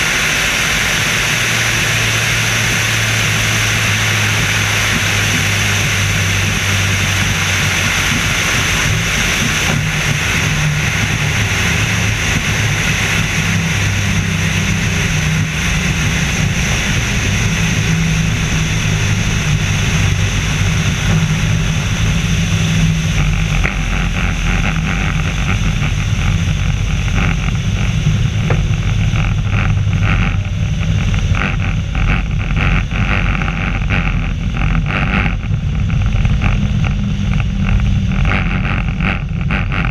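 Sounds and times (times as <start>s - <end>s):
biplane engine and propeller: 0.0s - 39.9s.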